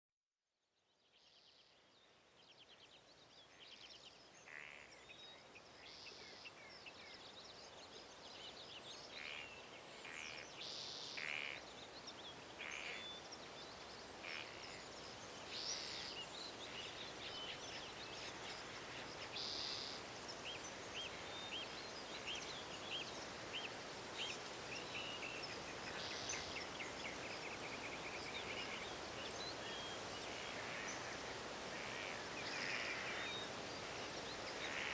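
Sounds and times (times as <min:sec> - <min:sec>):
background hiss: 0:01.2 - 0:34.9
birds calling and singing: 0:06.2 - 0:34.9.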